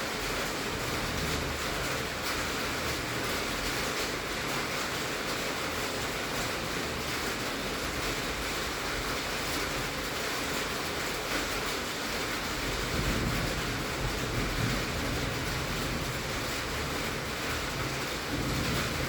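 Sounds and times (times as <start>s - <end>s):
heavy rain on a tin roof: 0.0s - 19.0s.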